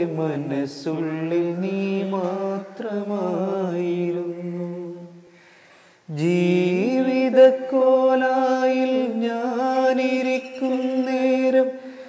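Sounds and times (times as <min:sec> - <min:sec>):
man singing unaccompanied: 0:00.0 - 0:05.4, 0:06.0 - 0:12.0.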